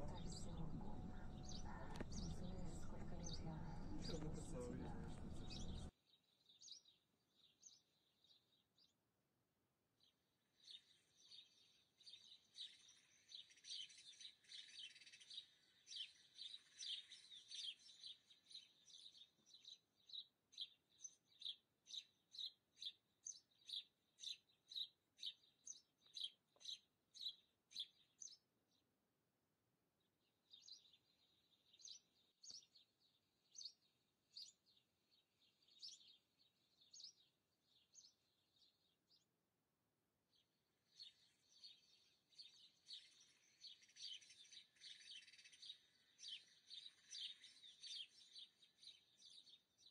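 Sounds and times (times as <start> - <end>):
faint bird chirping: 0.0 - 8.5, 10.0 - 28.9, 30.5 - 39.3, 40.3 - 49.9.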